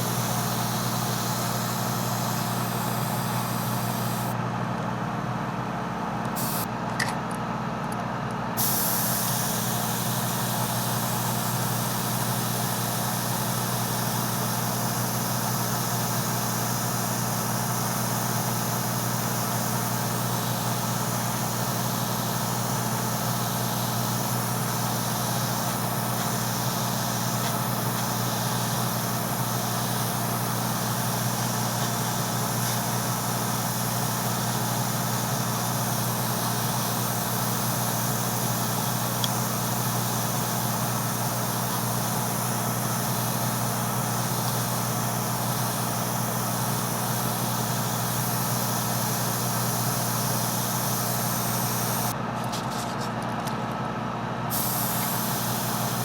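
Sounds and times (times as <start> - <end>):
airbrush spraying hiss: 0.0 - 4.4, 6.4 - 6.7, 8.6 - 52.2, 54.5 - 56.0
air compressor humming: 0.0 - 56.0.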